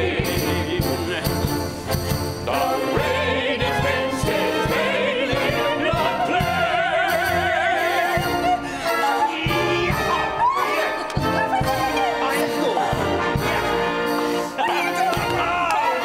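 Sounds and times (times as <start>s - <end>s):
symphony orchestra: 0.0s - 16.0s.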